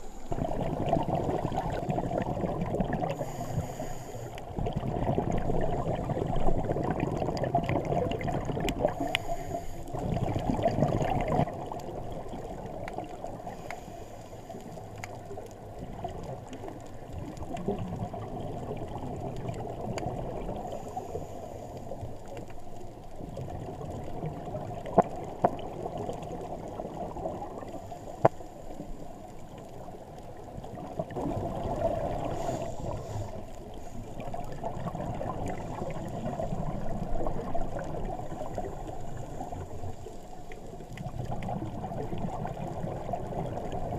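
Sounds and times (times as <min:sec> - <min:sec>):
underwater bubbles gurgling: 0:00.0 - 0:43.9.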